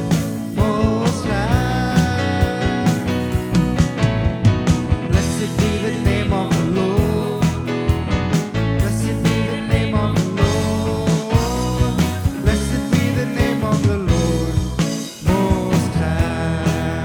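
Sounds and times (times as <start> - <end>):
band music: 0.0 - 17.0
steady drum beat: 0.0 - 17.0.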